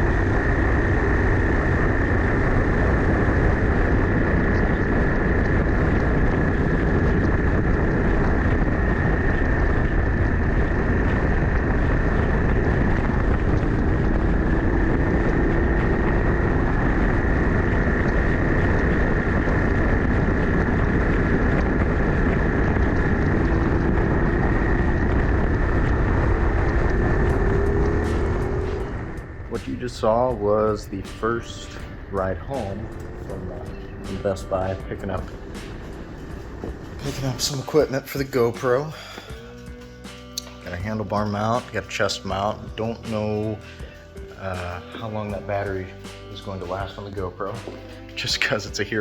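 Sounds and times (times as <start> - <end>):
motorcycle engine running: 0.0 - 40.4
wind rushing over microphone: 0.0 - 49.0.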